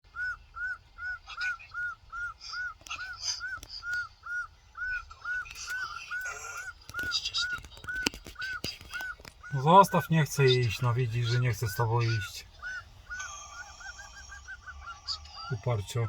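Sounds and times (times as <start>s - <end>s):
gull calling: 0.1s - 16.0s
other gulls crying: 0.1s - 16.0s.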